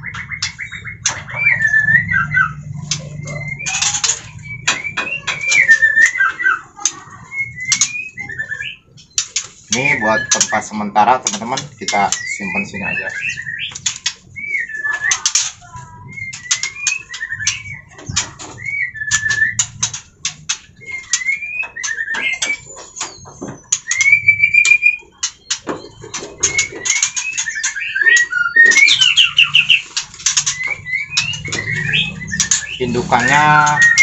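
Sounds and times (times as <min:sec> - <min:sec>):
bird whistled alarm calls: 0:00.0 - 0:06.6, 0:09.7 - 0:10.8, 0:11.5 - 0:34.0.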